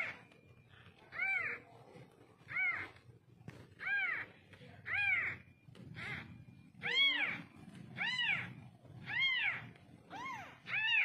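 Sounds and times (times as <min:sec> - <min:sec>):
kittens meowing: 0:00.0 - 0:11.0.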